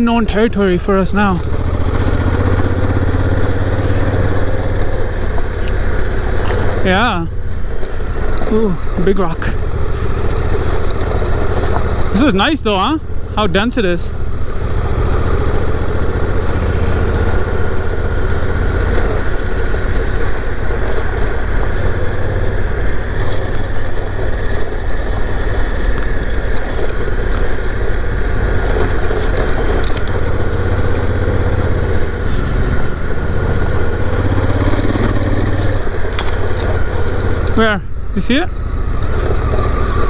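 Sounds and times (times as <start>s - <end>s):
motorcycle engine running: 0.0s - 40.0s
tyres on gravel road: 0.0s - 40.0s.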